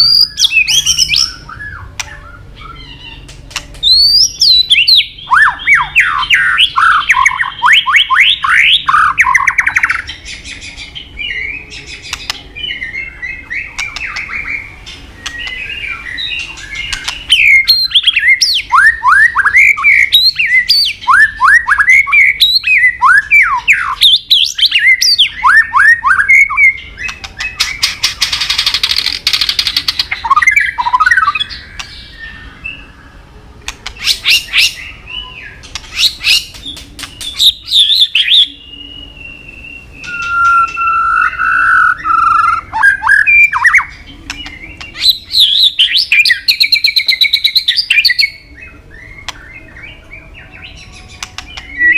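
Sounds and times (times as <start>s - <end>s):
bird singing whistled notes: 0.0s - 33.2s, 33.8s - 51.9s.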